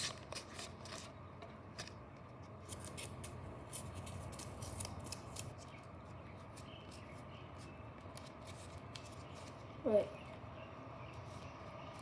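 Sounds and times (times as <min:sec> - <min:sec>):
paper crinkling and rustling: 0:00.0 - 0:09.7.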